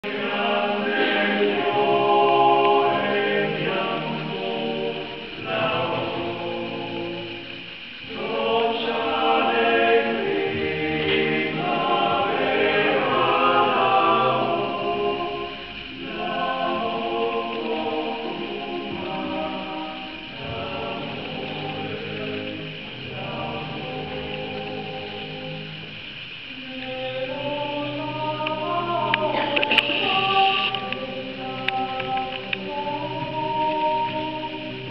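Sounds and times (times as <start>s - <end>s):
male a cappella harmony singing: 0.0s - 34.9s.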